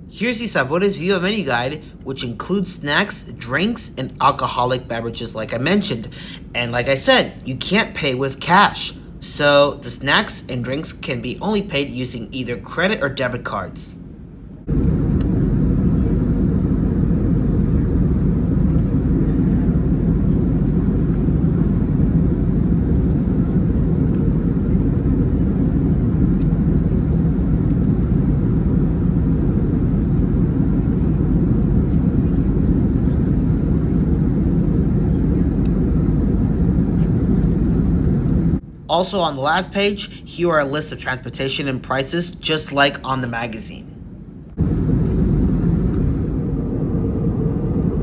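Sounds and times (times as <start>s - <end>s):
airplane cabin airflow and engine: 0.0s - 48.0s.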